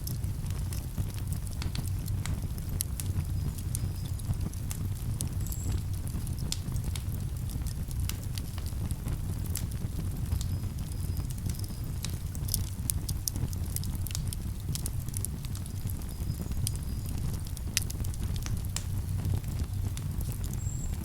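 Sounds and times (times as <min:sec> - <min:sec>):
campfire crackling and popping: 0:00.0 - 0:21.0
low steady rumble: 0:00.0 - 0:21.0.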